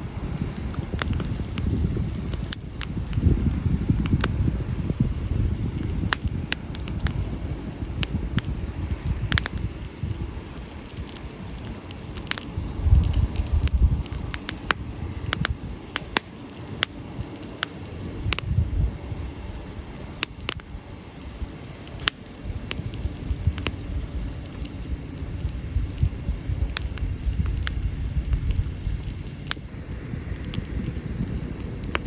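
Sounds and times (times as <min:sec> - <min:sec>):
campfire crackling and popping: 0:00.0 - 0:32.0
low fire rumble: 0:00.0 - 0:32.0.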